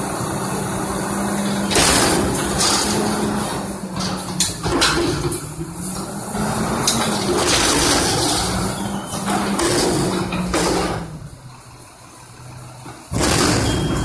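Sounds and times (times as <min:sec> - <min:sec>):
garbage truck engine and hydraulics: 0:00.0 - 0:14.0
dumpster banging: 0:01.0 - 0:11.8, 0:12.5 - 0:14.0
falling trash rushing: 0:01.2 - 0:11.4, 0:12.9 - 0:14.0.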